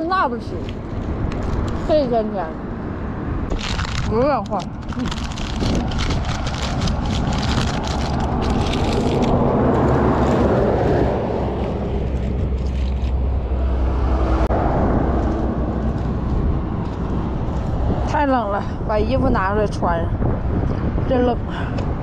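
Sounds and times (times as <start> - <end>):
low rumble: 0.5 - 22.0
vehicle passing: 0.6 - 21.2.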